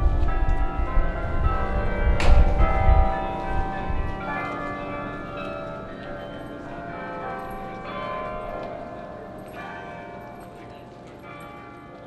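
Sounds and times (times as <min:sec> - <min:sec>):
tower bells ringing: 0:00.0 - 0:12.0.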